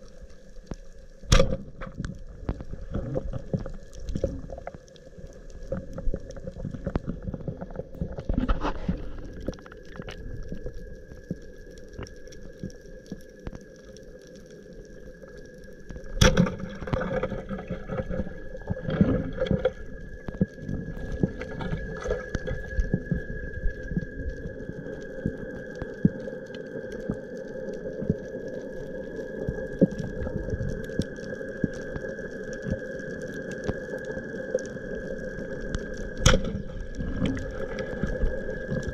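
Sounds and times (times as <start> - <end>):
underwater crackle of clicks: 0.0 - 38.9.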